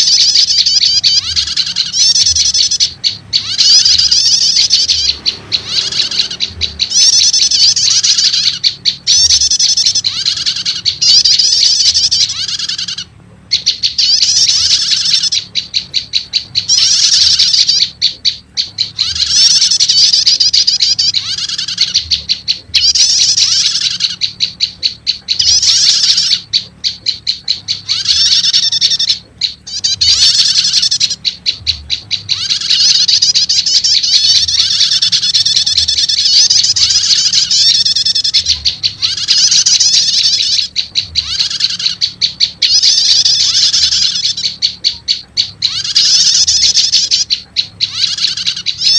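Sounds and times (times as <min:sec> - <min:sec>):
loud fast high chirping: 0:00.0 - 0:48.9
tailorbird calls: 0:00.0 - 0:48.9.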